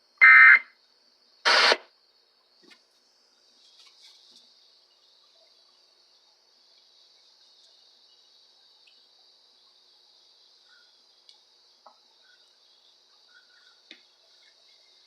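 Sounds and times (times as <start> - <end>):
faint high-pitched hiss: 0.0 - 15.0.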